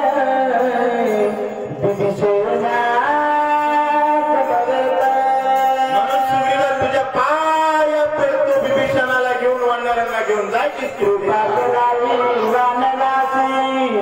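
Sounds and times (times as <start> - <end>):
man singing long held notes: 0.0 - 14.0.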